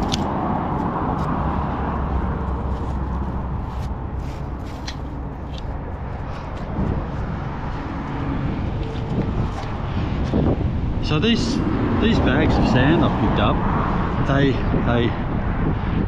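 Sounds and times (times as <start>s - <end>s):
low traffic rumble: 0.0s - 16.0s
vehicle passing: 0.0s - 16.0s.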